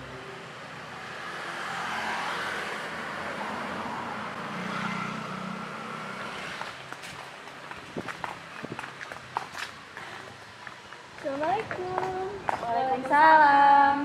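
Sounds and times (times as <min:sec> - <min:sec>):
cars and motorbikes passing: 0:00.0 - 0:14.0.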